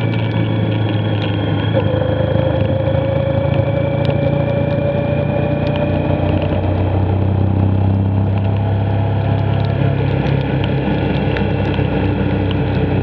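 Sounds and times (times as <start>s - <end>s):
motorcycle engine running: 0.0s - 13.0s
tyre noise on wet road: 0.0s - 13.0s
wind noise: 0.0s - 13.0s.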